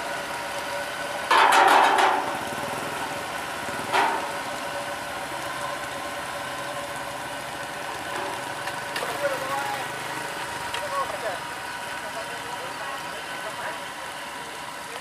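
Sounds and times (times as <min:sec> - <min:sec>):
combine harvester engine running: 0:00.0 - 0:15.0.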